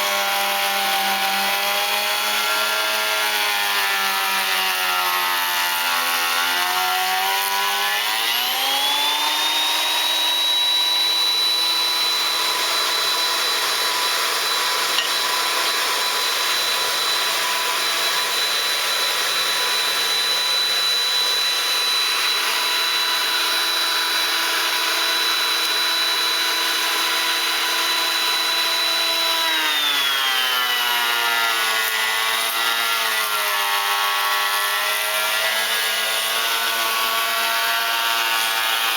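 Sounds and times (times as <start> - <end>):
planer motor whining: 0.0 - 38.9.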